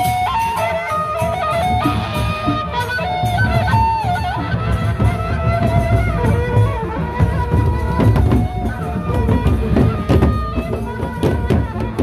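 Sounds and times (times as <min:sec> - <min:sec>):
barrel drums beating: 0:01.2 - 0:12.0.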